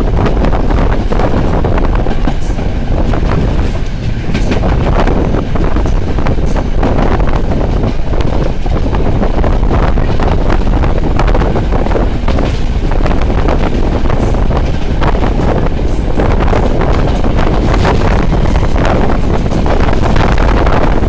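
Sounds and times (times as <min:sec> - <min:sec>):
train running noise: 0:00.0 - 0:21.0
wind buffeting microphone: 0:00.0 - 0:21.0.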